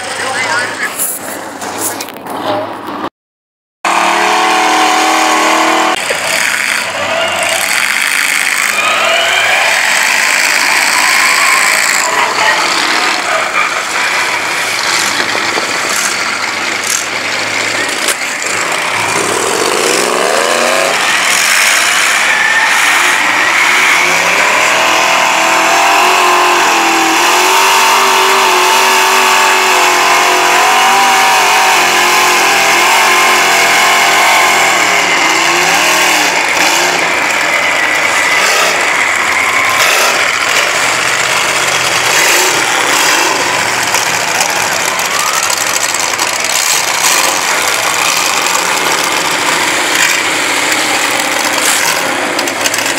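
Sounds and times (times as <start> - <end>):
truck engines revving hard: 0.0 - 3.1, 3.8 - 52.9.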